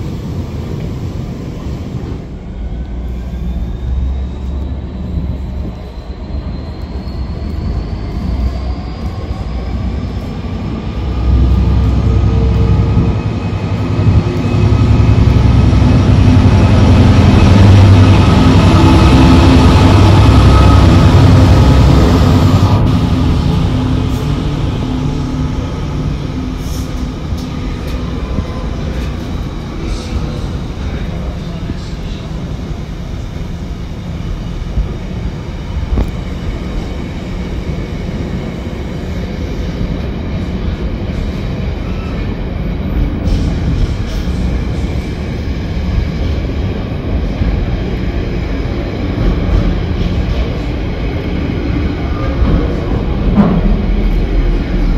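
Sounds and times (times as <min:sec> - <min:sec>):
diesel locomotive engine passing: 0:00.0 - 0:54.9
train wheels rumbling on rail: 0:00.0 - 0:54.9.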